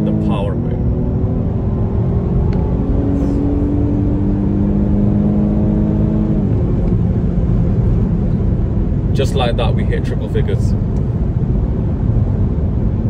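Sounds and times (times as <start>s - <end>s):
car engine under full throttle: 0.0s - 13.0s.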